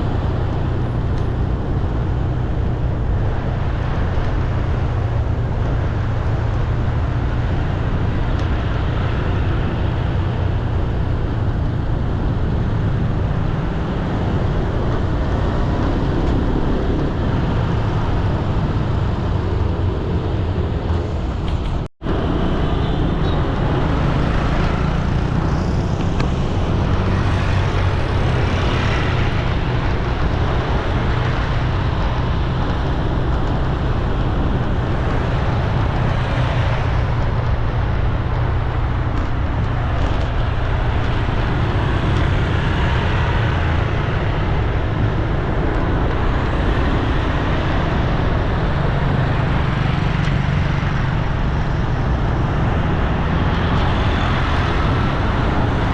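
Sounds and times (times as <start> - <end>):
road traffic rush: 0.0 - 55.9.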